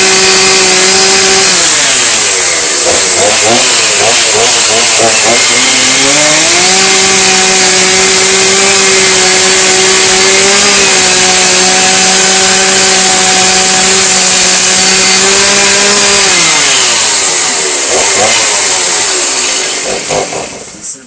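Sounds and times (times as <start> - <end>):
power saw running and winding down: 0.0 - 21.0.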